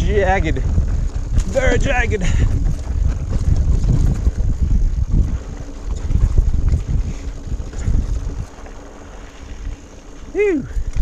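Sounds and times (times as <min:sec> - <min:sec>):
mountain bike rattling over rocks: 0:00.0 - 0:11.0
wind on microphone: 0:00.0 - 0:11.0.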